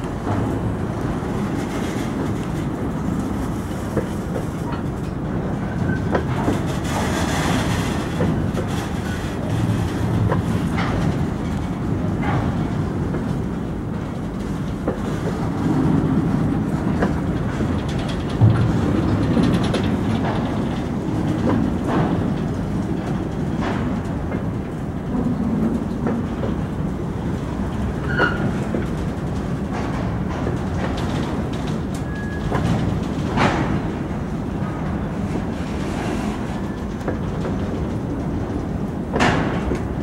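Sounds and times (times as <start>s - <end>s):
freight wagons rumbling: 0.0s - 40.0s
wheel clicks over rail joints: 0.0s - 40.0s.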